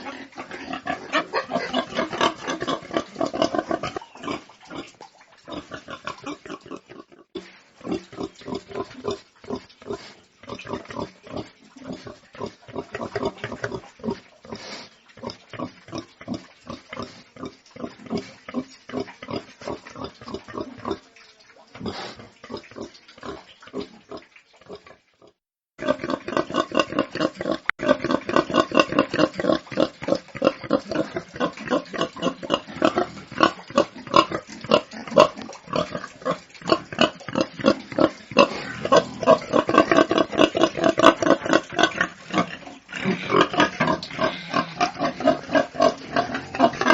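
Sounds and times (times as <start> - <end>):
pigs grunting: 0.0 - 21.0, 21.8 - 46.9.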